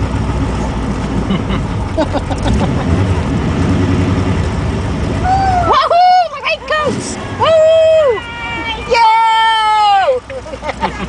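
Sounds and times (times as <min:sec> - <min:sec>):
car engine and exhaust rumbling: 0:00.0 - 0:11.0.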